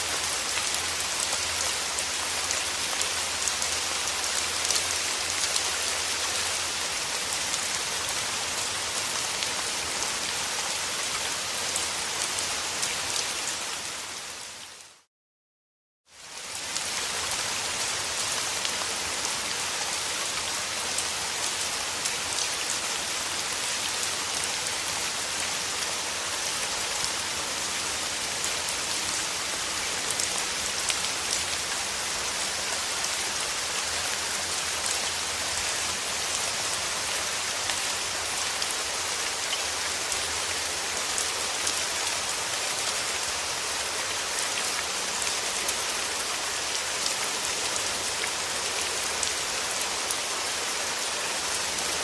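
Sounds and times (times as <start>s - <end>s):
steady rain falling: 0.0s - 15.1s, 16.1s - 52.0s.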